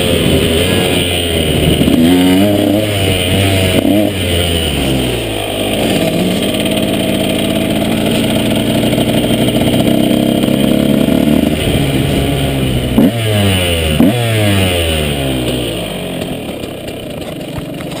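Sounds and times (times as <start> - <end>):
two-stroke motocross engine revving: 0.0 - 18.0.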